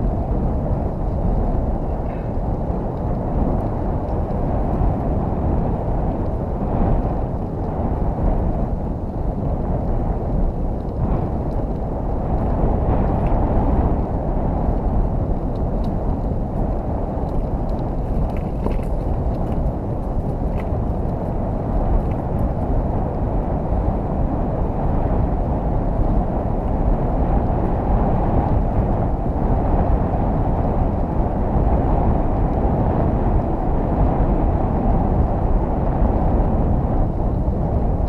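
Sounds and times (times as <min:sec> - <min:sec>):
bicycle tyre rumble: 0:00.0 - 0:38.0
wind buffeting microphone: 0:00.0 - 0:38.0.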